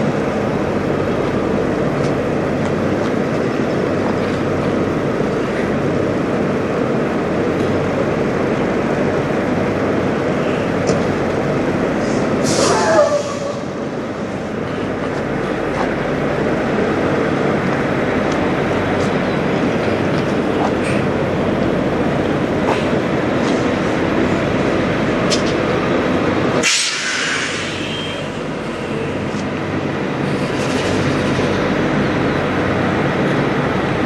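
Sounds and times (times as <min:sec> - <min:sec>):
idling diesel truck engines: 0:00.0 - 0:34.0.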